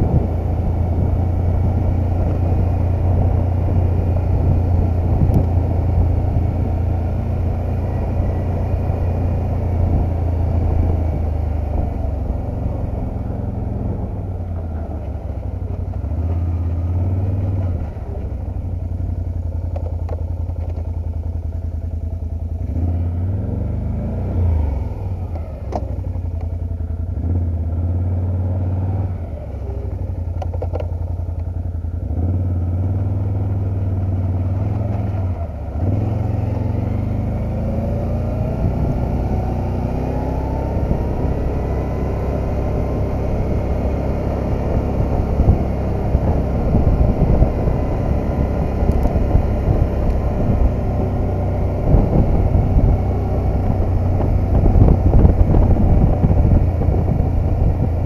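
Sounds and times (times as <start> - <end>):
motor vehicle engine on gravel: 0.0 - 58.0.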